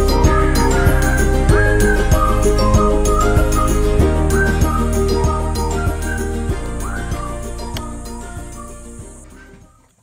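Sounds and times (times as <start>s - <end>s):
light melody over steady beat: 0.0s - 10.0s.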